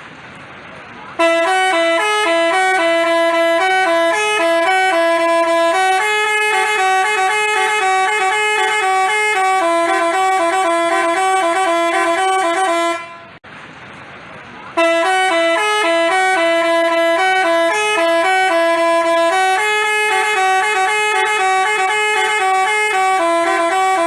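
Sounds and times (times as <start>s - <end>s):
musical bus horn tune: 1.2s - 13.4s, 14.8s - 24.0s.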